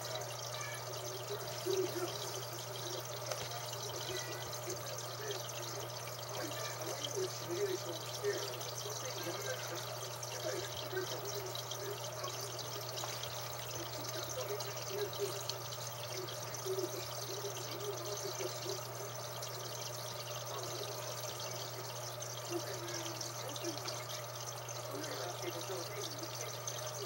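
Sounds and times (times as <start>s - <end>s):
water trickling and bubbling: 0.0s - 27.0s.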